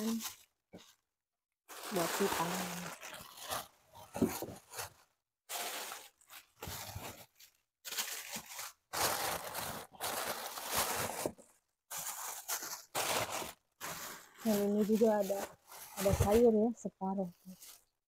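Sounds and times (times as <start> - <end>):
plastic bags rustling and crinkling: 0.0 - 1.0, 1.7 - 18.0.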